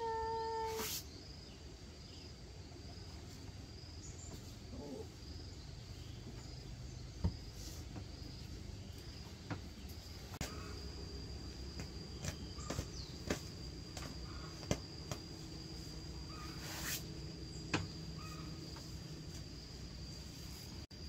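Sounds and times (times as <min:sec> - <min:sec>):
insects chirring: 0:00.0 - 0:21.0
low background hum: 0:00.0 - 0:21.0.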